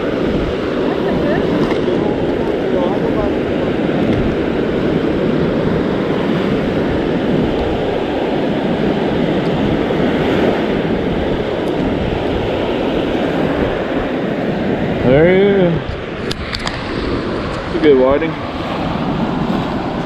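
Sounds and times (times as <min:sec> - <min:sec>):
waves breaking on beach: 0:00.0 - 0:20.0
wind buffeting microphone: 0:00.0 - 0:20.0.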